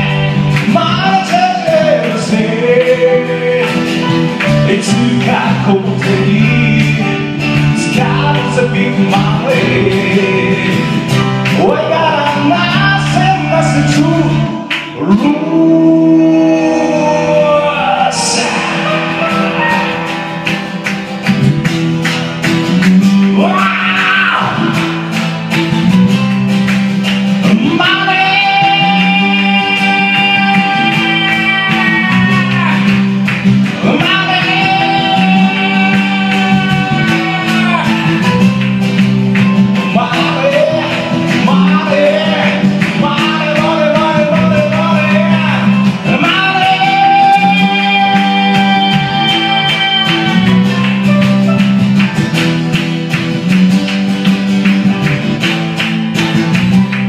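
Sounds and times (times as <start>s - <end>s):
person singing: 0.0s - 21.2s, 23.2s - 24.9s, 27.4s - 38.8s, 39.6s - 52.0s
live rock band playing: 0.0s - 57.0s.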